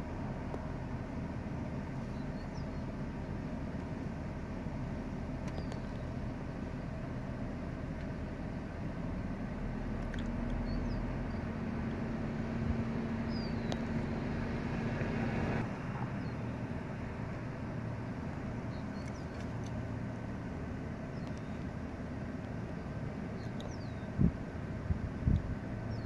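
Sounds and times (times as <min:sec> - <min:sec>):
engine rumbling: 0:00.0 - 0:26.0
steady hum: 0:00.0 - 0:26.0.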